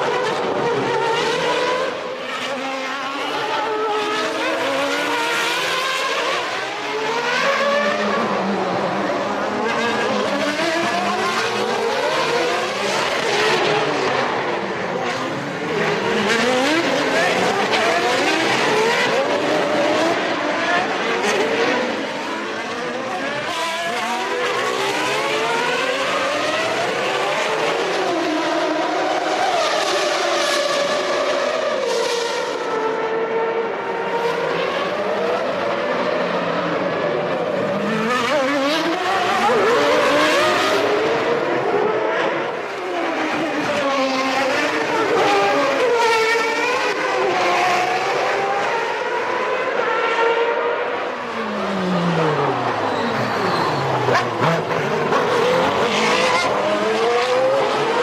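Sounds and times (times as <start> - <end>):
car braking and downshifting: 0.0 - 58.0
racing car engines screaming: 0.0 - 58.0.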